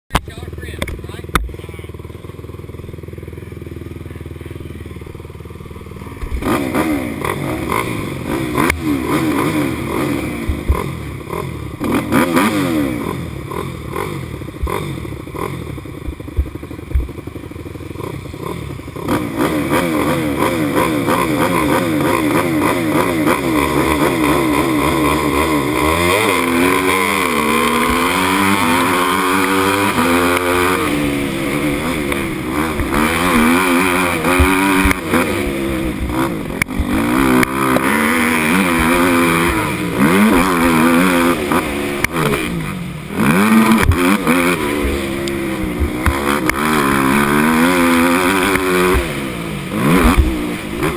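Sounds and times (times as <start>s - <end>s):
dirt bike engine revving: 0.1s - 50.9s.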